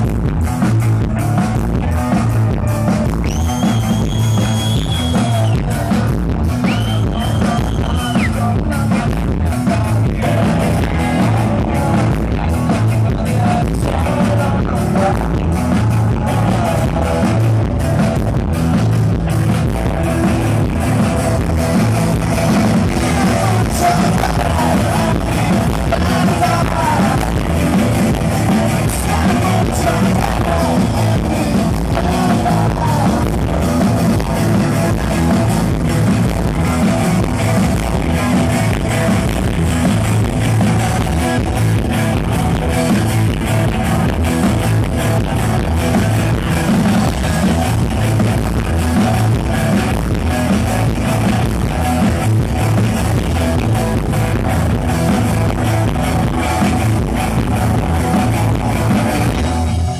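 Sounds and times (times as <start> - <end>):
bass guitar: 0.0 - 59.9
drum kit: 0.0 - 59.9
electric guitar: 0.0 - 59.9.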